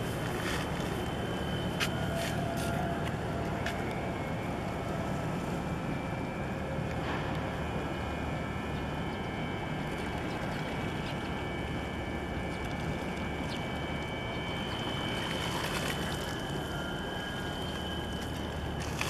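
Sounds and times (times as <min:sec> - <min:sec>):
faint high-pitched whines: 0:00.0 - 0:19.0.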